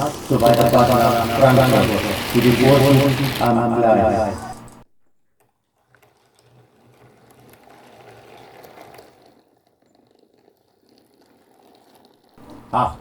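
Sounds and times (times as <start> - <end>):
model train rattling on track: 0.0 - 4.8, 5.9 - 12.9.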